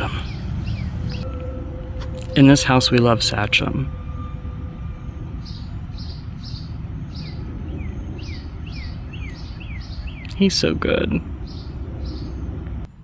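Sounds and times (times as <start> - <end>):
bird chirping: 0.0 - 12.9
quick down-slurred bird notes: 0.0 - 12.9
low background rumble: 0.0 - 13.0.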